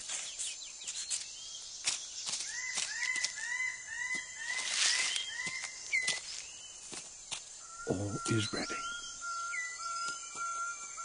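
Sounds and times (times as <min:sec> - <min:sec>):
rainforest ambience: 0:00.0 - 0:11.0.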